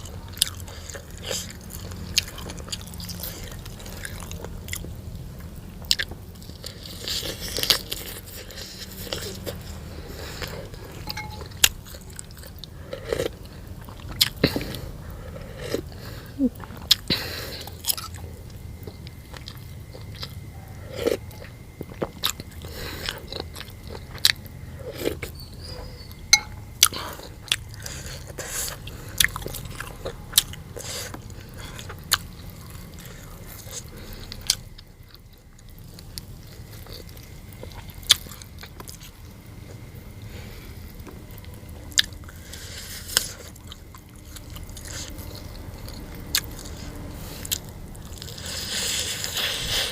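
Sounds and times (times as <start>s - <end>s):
person chewing and crunching: 0.0s - 49.9s.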